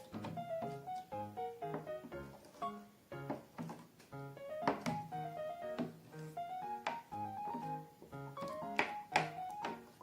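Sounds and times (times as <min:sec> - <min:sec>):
light instrumental music: 0:00.0 - 0:10.0.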